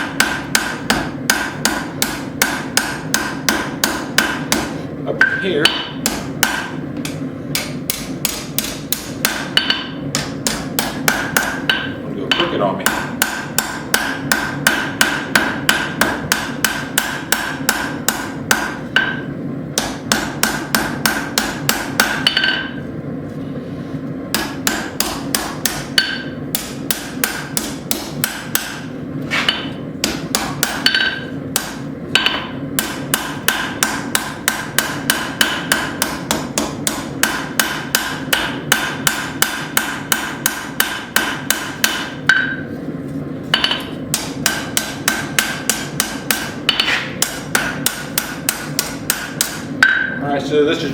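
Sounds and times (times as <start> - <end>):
hammer striking steel on anvil: 0.0 - 22.8, 24.3 - 42.7, 43.5 - 50.2.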